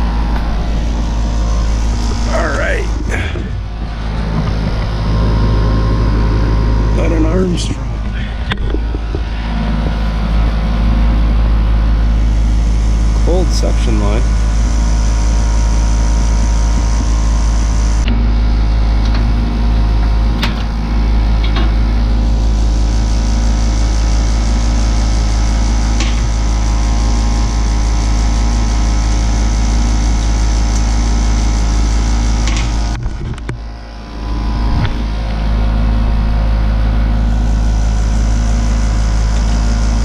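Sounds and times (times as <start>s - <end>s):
air conditioner humming: 0.0s - 40.0s.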